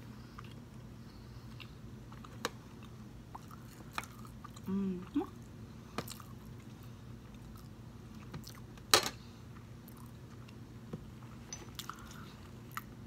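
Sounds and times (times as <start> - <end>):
person chewing food: 0.1 - 8.7, 9.5 - 10.6, 11.2 - 13.0.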